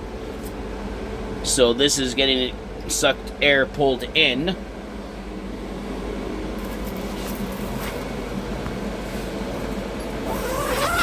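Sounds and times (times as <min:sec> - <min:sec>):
ventilation fan rushing air: 0:00.0 - 0:11.0.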